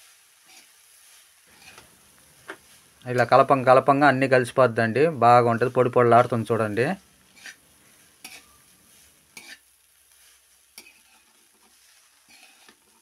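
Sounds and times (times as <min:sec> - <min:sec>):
metal spatula scraping kadai: 0:00.0 - 0:04.4, 0:05.0 - 0:13.0.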